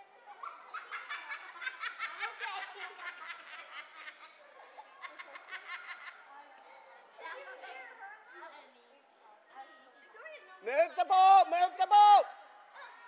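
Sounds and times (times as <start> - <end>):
people laughing and chattering: 0.0 - 13.0.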